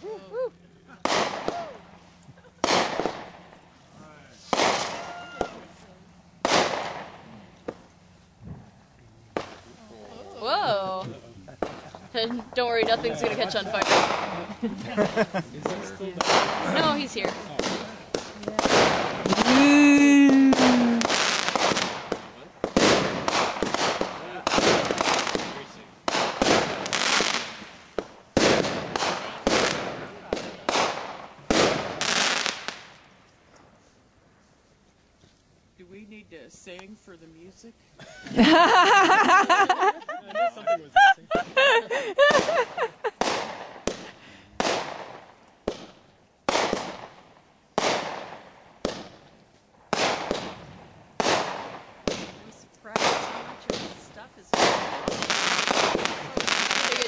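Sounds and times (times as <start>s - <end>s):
crackling hiss: 0.0s - 57.0s
fireworks bangs: 0.8s - 33.9s, 36.4s - 57.0s.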